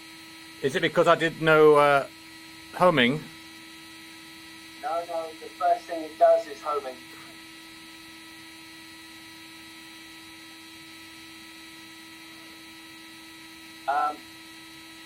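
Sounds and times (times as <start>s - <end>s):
electrical hum: 0.0s - 15.0s
faint high whines: 0.0s - 15.0s.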